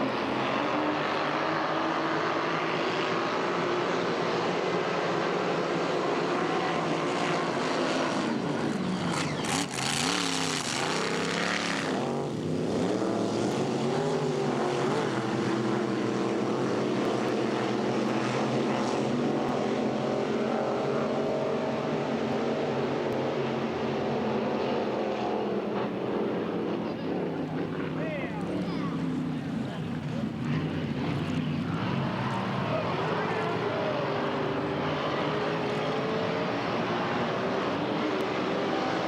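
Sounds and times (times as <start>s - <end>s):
boat engines running: 3.0s - 38.8s.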